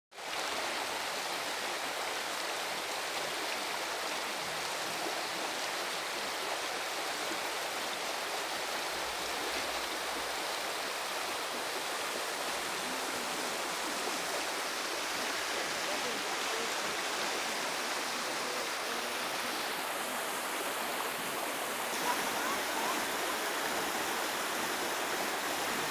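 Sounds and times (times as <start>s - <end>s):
floodwater rushing: 0.2s - 25.9s.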